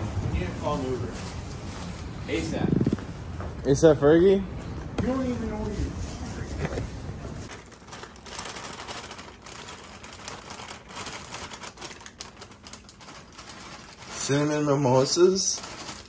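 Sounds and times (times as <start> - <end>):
plastic bag rustling: 0.4 - 3.8, 5.0 - 16.0.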